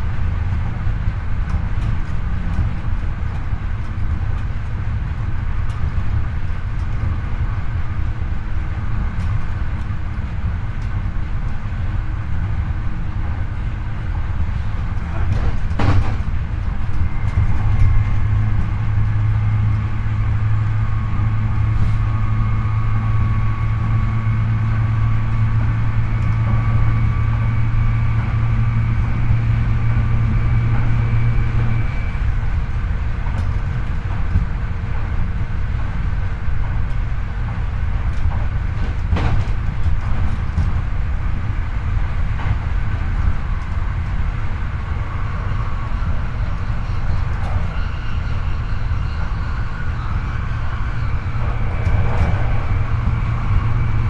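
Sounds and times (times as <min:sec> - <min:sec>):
train motor hum and whine: 0:00.0 - 0:54.0
train rolling rumble: 0:00.0 - 0:54.0.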